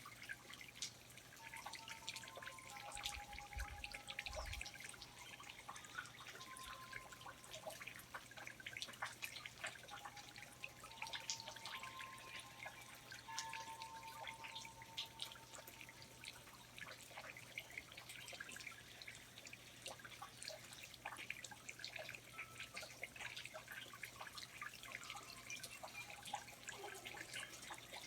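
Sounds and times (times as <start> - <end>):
water dripping: 0.0 - 28.0.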